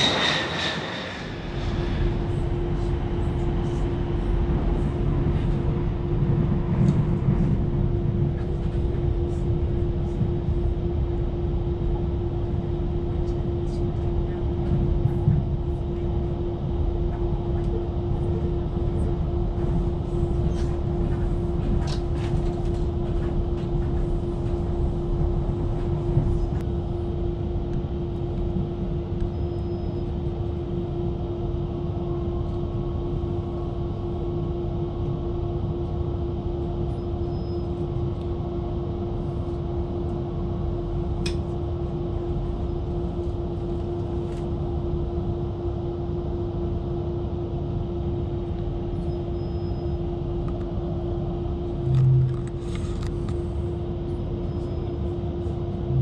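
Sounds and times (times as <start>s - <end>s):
constant low hum: 0.0s - 56.0s.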